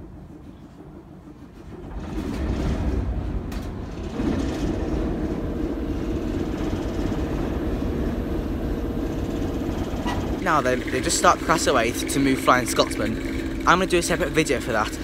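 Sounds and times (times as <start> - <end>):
diesel engine starting and running: 1.8 - 15.0.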